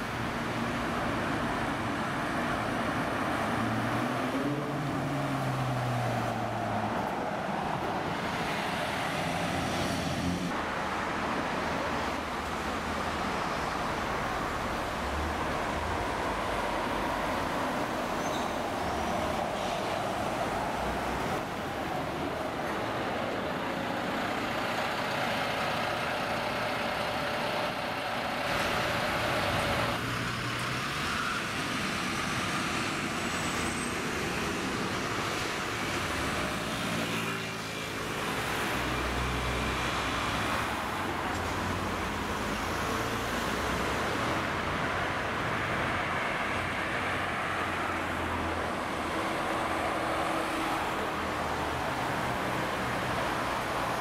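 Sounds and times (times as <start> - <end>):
buses and cars driving past: 0.0 - 54.0
tyres on the road: 0.0 - 54.0.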